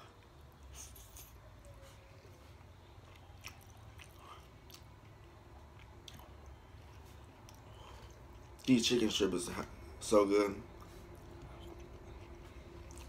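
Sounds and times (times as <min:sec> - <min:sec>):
chewing soft food: 0:00.0 - 0:10.0, 0:10.6 - 0:13.0.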